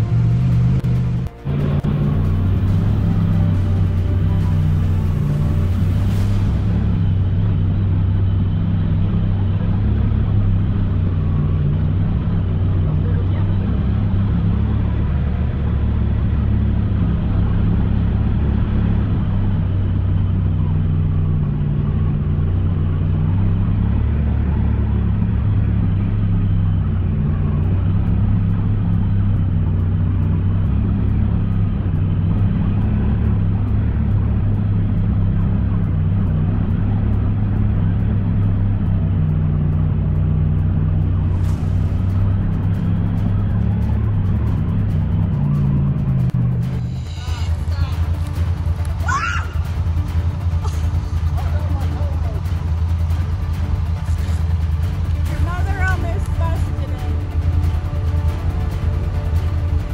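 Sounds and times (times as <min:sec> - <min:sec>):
engine low drone: 0:00.0 - 0:59.9.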